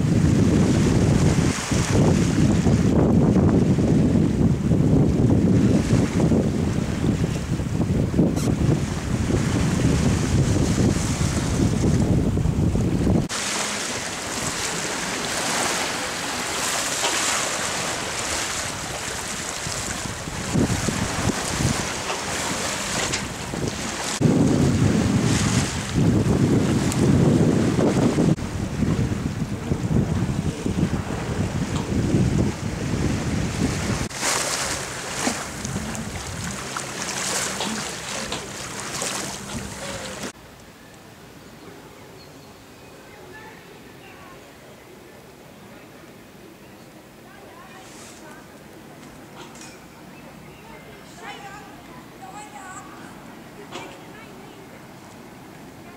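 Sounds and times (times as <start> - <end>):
water rushing along yacht hull: 0.0 - 55.9
wind: 0.0 - 55.9.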